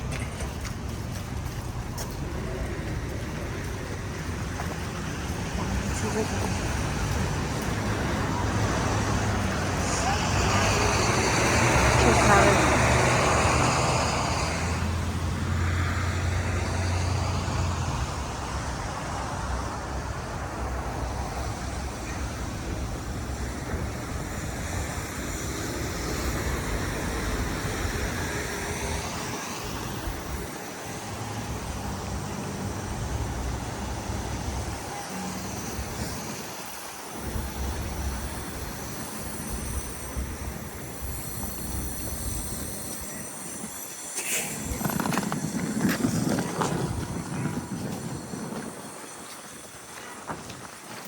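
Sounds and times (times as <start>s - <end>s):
heavy vehicle engine hum: 0.0s - 50.9s
road noise: 0.0s - 51.0s
vehicles passing: 0.0s - 51.0s.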